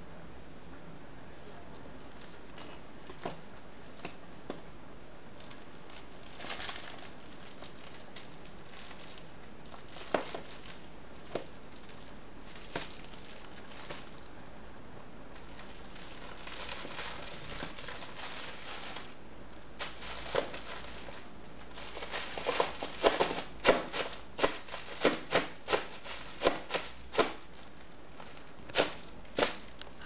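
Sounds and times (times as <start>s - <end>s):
cat rustling plush toy: 2.0s - 14.4s, 15.3s - 30.0s.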